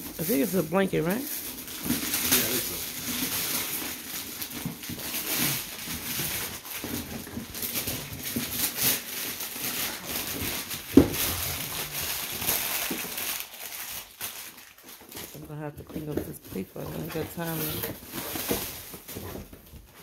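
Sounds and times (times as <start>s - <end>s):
wrapping paper crinkling: 0.0s - 20.0s.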